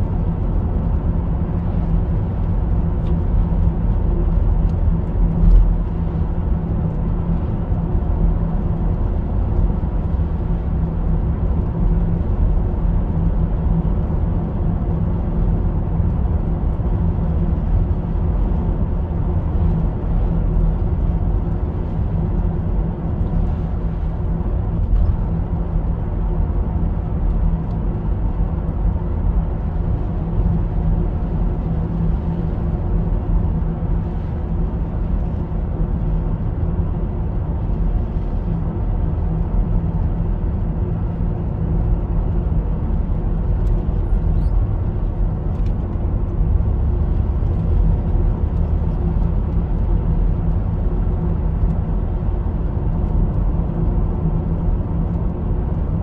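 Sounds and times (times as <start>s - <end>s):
car engine and tyre hum: 0.0s - 56.0s.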